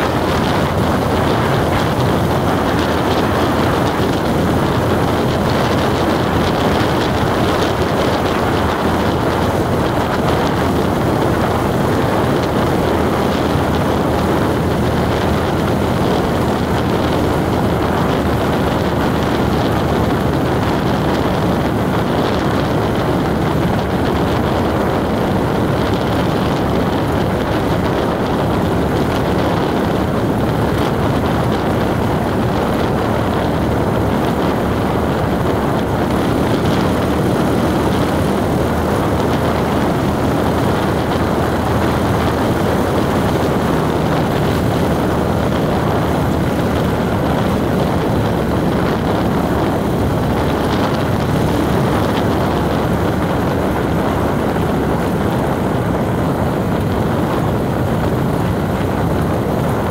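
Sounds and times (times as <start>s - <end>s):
vehicle driving drone: 0.0s - 59.9s.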